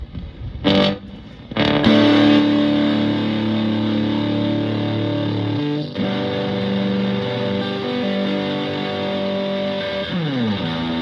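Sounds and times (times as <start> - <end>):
fuzzed electric guitar: 0.6 - 11.0.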